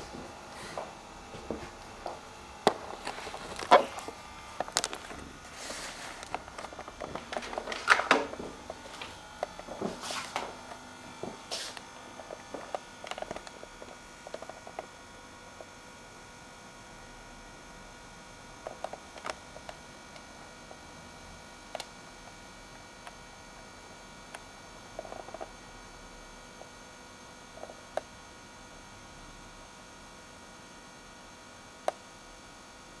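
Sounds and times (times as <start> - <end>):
faint electrical hum: 0.0 - 33.0.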